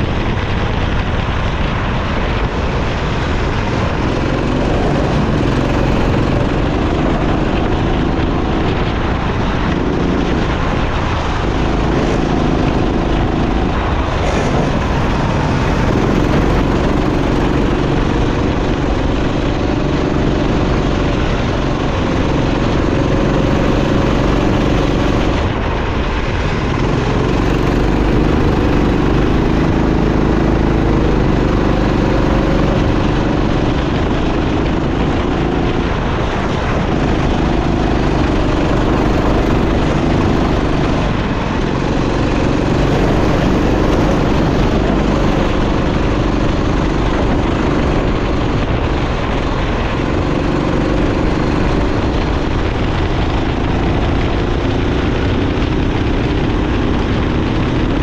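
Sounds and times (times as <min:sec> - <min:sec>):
constant rushing noise: 0:00.0 - 0:58.0
go-kart engine revving: 0:00.0 - 0:58.0.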